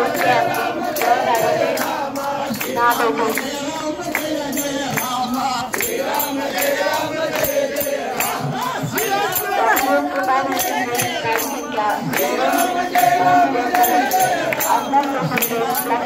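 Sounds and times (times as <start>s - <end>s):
group singing devotional chant: 0.0s - 16.0s
hand claps: 0.0s - 16.0s
jingling percussion: 0.0s - 16.0s.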